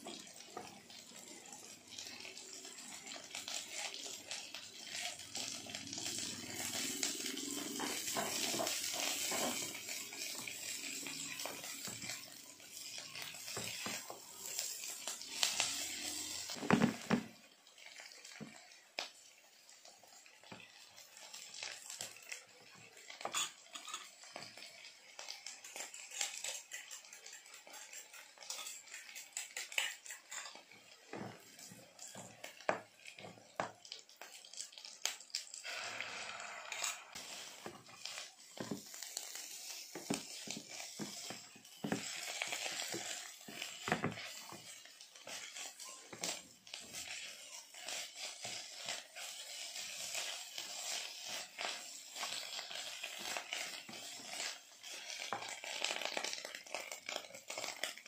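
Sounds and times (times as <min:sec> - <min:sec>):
faint sizzle: 0:00.0 - 0:58.0.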